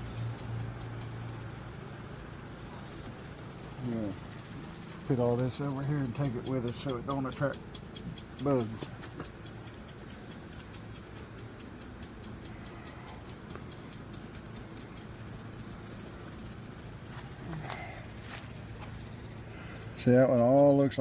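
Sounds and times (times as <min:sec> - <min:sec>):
bees buzzing: 0:00.0 - 0:21.0
fast regular ticking: 0:00.0 - 0:21.0.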